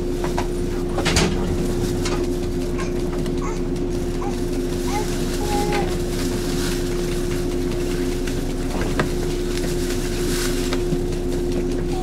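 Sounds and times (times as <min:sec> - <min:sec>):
electric train equipment hum: 0:00.0 - 0:12.0.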